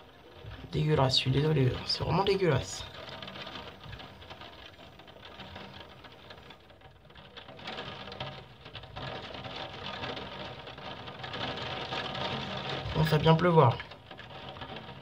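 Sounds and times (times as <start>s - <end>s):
rain pattering on glass: 0.0s - 15.0s.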